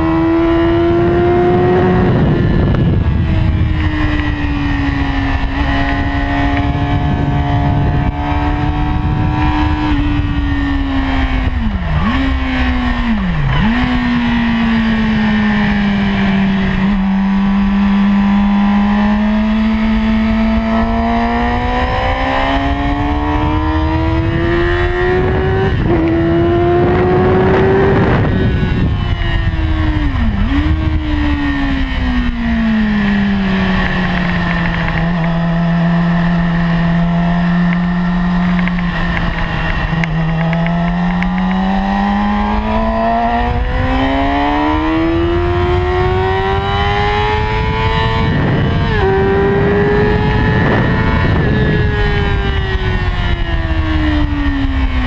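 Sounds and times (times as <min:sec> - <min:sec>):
motorcycle engine revving: 0:00.0 - 0:55.0
wind noise rushing: 0:00.0 - 0:55.0.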